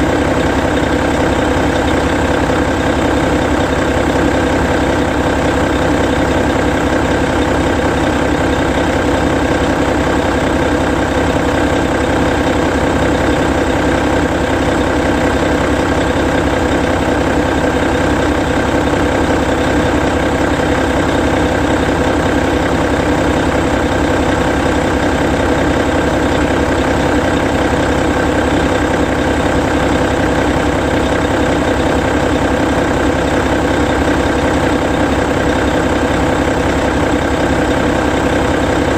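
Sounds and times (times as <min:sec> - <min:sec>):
diesel bus engine idling: 0:00.0 - 0:38.9.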